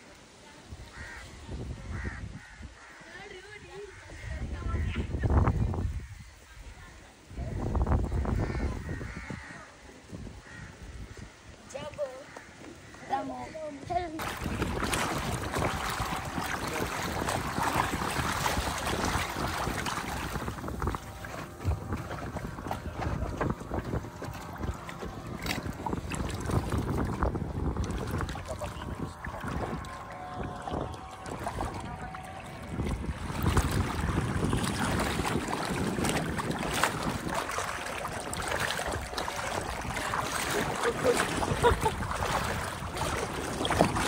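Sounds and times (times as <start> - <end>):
water splashing from a boat: 0.0 - 44.0
wind on microphone: 0.7 - 12.0, 12.9 - 44.0.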